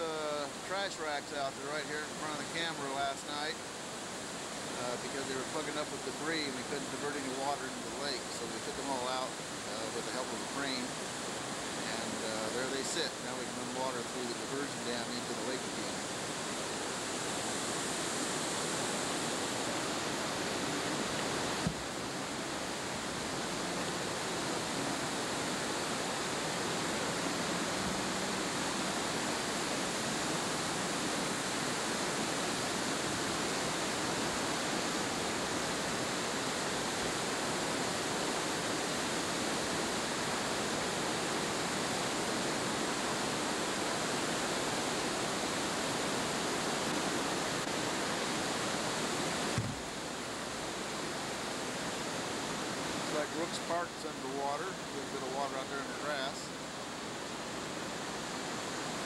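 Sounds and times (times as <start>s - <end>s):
water rushing over spillway: 0.0s - 59.0s.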